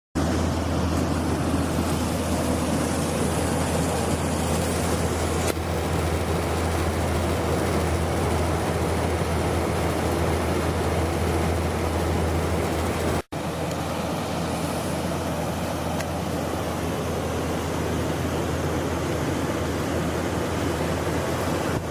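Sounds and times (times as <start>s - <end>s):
broad rushing noise: 0.2s - 21.9s
heat pump humming: 0.2s - 21.9s.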